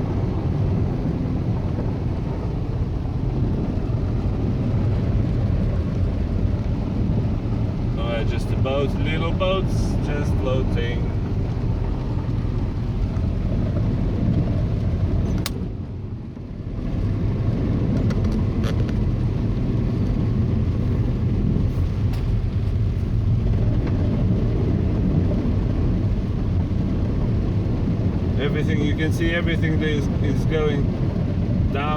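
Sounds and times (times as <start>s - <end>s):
car engine and road noise: 0.0s - 31.9s.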